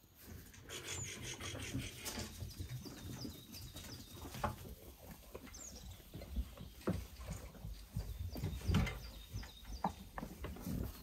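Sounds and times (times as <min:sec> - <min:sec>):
hooves thudding: 0:01.4 - 0:11.0.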